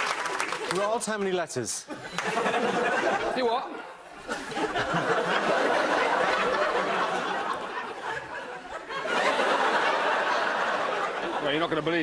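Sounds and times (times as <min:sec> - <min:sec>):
audience laughing: 0:01.8 - 0:12.0.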